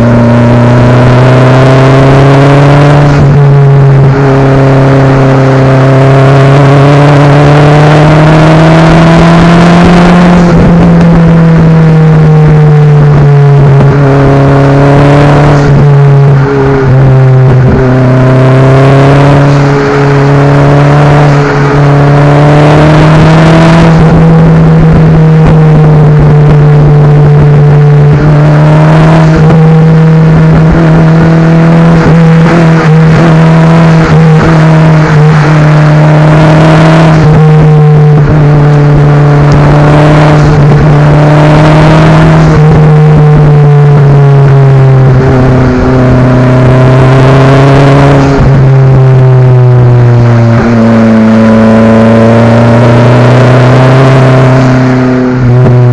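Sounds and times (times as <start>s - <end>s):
car engine accelerating and shifting: 0.0s - 55.9s.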